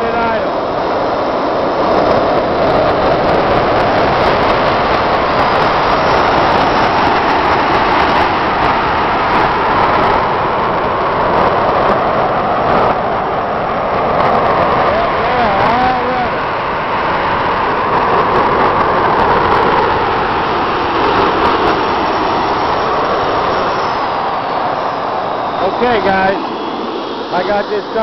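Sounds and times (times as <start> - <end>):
model jet turbines rushing: 0.0 - 28.0.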